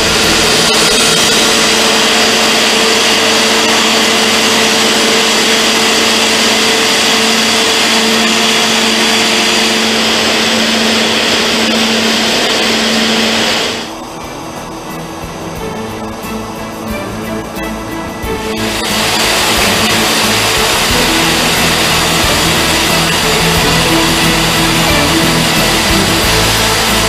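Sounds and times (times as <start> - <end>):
hydraulic rock drill: 0.0 - 27.0
steady underlying hum: 0.0 - 27.0.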